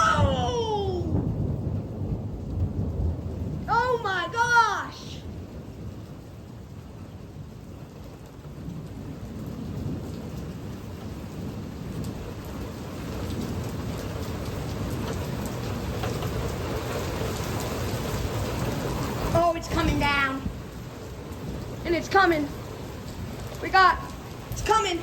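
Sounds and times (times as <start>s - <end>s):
thunder rumbling: 0.0s - 7.7s, 8.4s - 25.0s
heavy rain: 0.0s - 25.0s
raindrops ticking close by: 0.0s - 25.0s.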